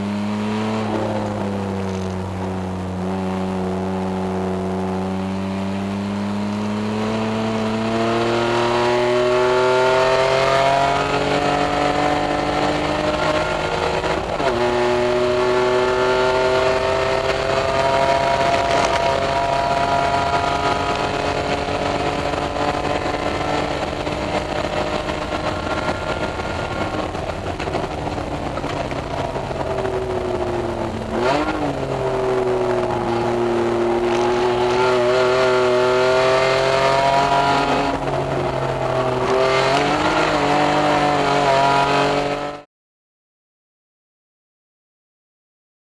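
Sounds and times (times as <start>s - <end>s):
race car engine accelerating: 0.0s - 42.6s.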